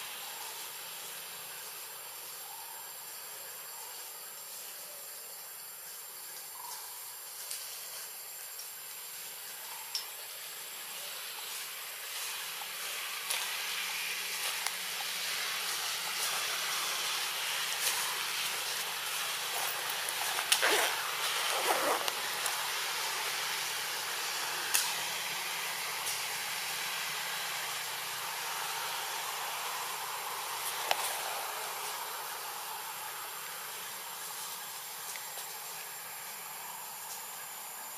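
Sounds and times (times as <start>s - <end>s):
outdoor ambience hiss: 0.0s - 37.9s.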